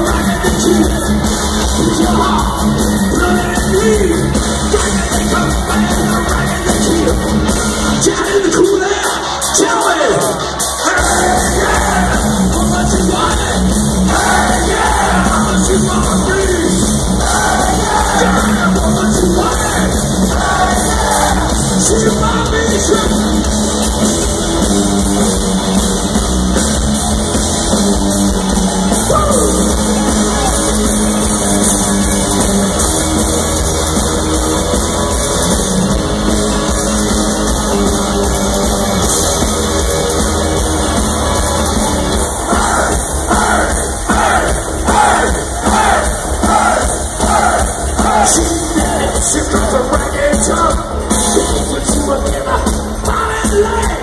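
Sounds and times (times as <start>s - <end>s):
live heavy rock band: 0.0s - 54.0s.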